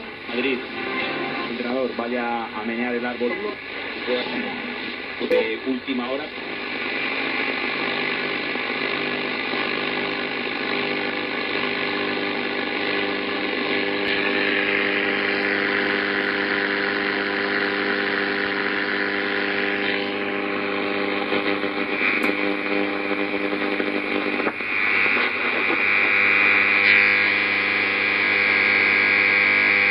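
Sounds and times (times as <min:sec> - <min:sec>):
radio interference hiss: 0:00.0 - 0:29.9.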